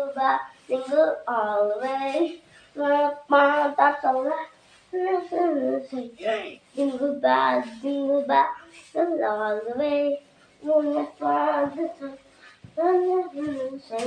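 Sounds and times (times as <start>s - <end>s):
child singing: 0.0s - 14.0s.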